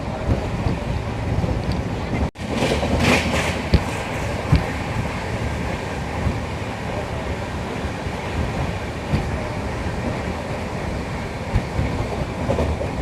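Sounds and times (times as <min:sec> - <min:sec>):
moving train rumble: 0:00.0 - 0:13.0.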